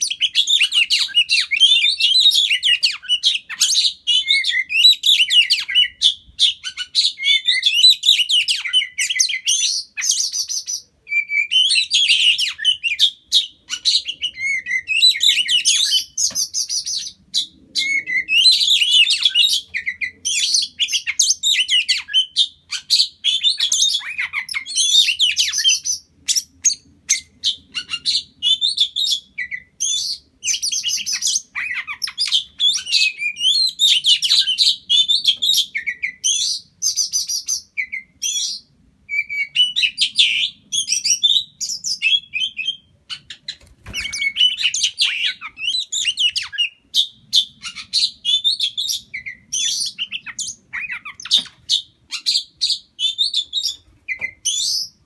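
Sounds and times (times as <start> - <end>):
bird chirping and trilling: 0.0 - 55.0.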